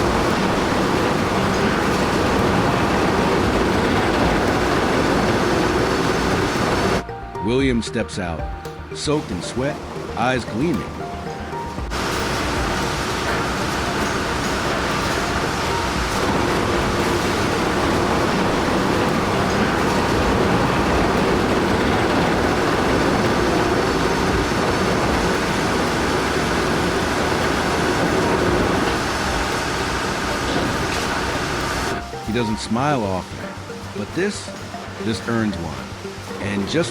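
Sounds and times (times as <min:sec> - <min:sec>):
heavy machine running: 0:00.0 - 0:07.6, 0:08.8 - 0:36.9.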